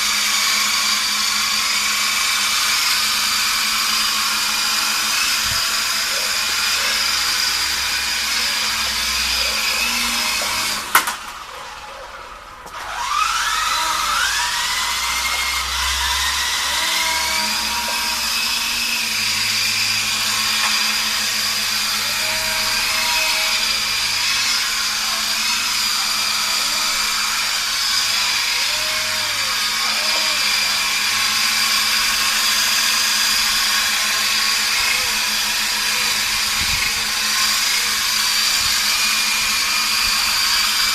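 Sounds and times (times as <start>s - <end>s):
rc helicopter motor whining: 0.0s - 40.9s.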